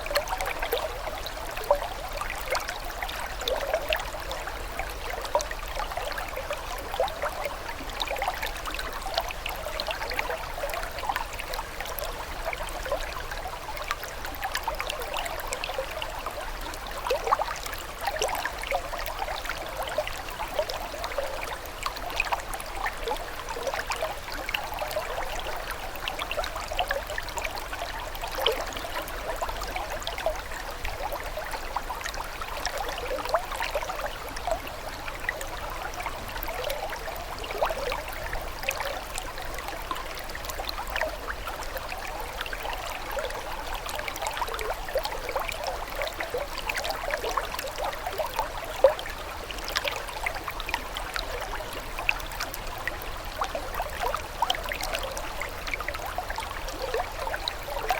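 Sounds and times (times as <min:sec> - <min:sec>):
water trickling and babbling: 0:00.0 - 0:57.9.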